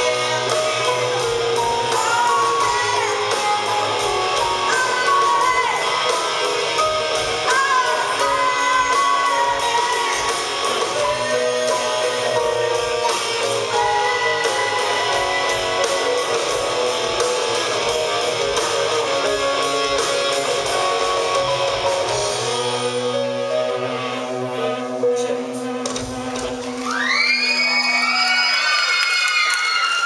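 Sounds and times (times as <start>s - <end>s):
bass guitar: 0.0s - 27.3s
drums: 0.0s - 30.0s.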